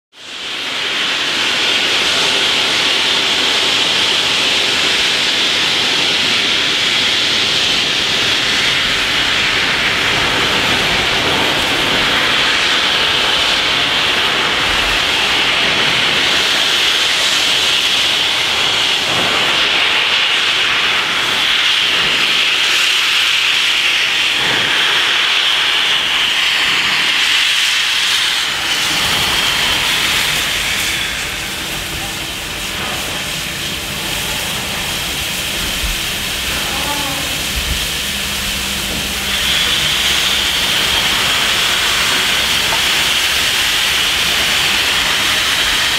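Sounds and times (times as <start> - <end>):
steam venting hiss: 0.2 - 45.9.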